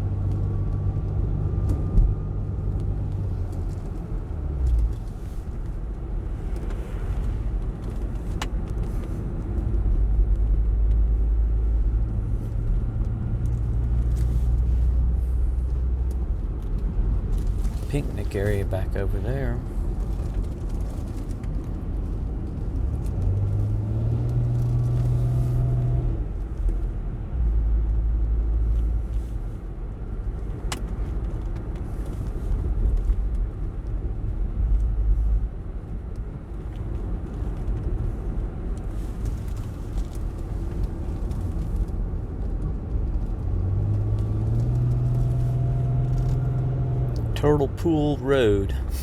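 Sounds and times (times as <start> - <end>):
car engine and tyres rumbling: 0.0 - 49.0.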